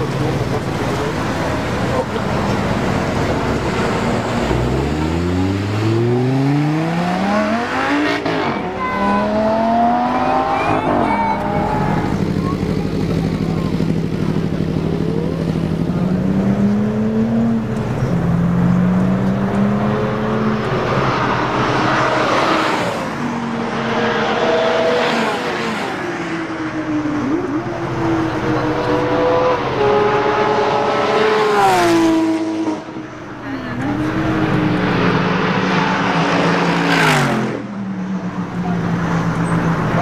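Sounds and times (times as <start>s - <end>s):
race car engines accelerating: 0.0s - 40.0s.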